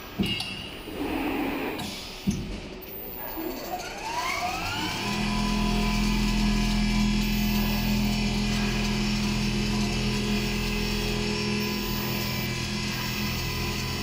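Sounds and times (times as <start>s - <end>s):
sewing machine whine and hum: 2.7s - 14.0s.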